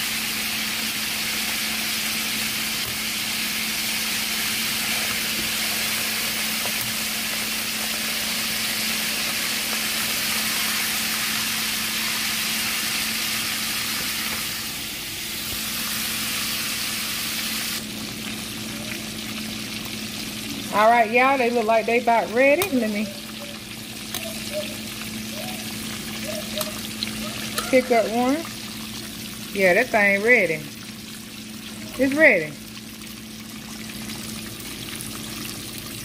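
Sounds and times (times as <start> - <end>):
fish deep-frying in oil: 0.0 - 36.0.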